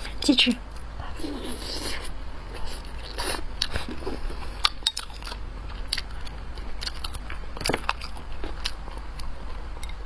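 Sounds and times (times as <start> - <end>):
biting and chewing food: 0.7 - 10.0.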